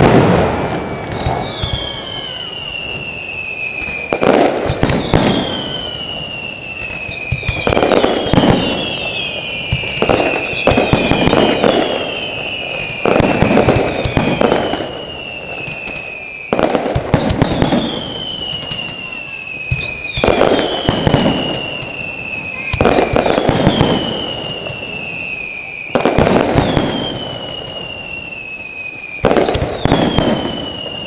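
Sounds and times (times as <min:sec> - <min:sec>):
descending firework whistle: 0:00.0 - 0:31.0
firework crackling: 0:00.0 - 0:31.0.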